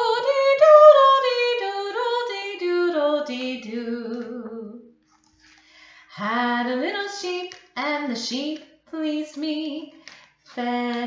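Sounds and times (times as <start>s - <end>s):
woman singing unaccompanied: 0.0s - 4.9s, 6.1s - 11.0s.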